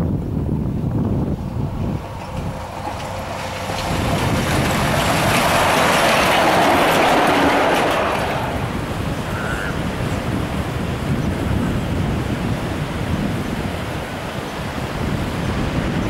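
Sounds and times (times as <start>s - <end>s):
railcar passing close by: 0.0s - 16.0s.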